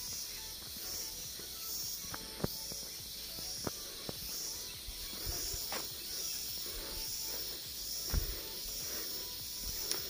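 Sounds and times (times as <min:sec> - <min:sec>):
insects buzzing: 0:00.0 - 0:10.0
soft footsteps on paved path: 0:00.0 - 0:10.0.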